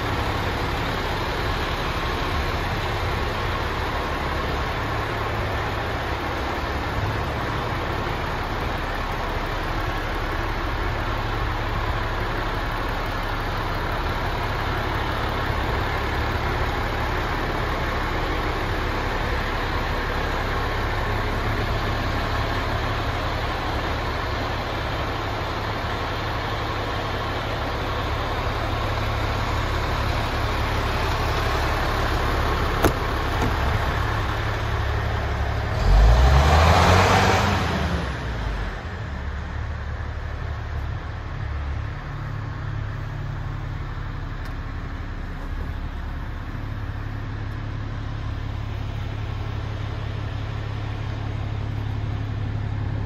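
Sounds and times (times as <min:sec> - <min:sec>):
diesel truck engine idling and revving: 0:00.0 - 0:53.0.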